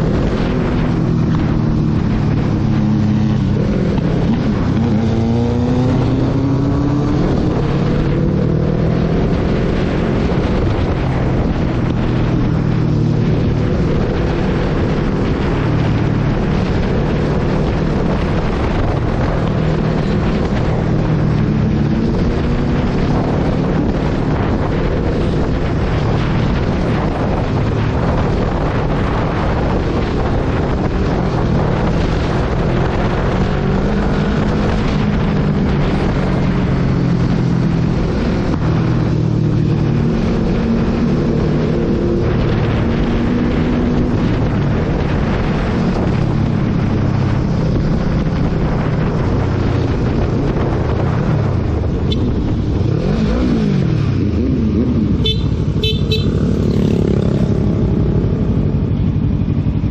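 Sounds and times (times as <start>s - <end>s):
motorcycle engine revving: 0.0s - 59.9s
wind buffeting microphone: 0.0s - 59.9s.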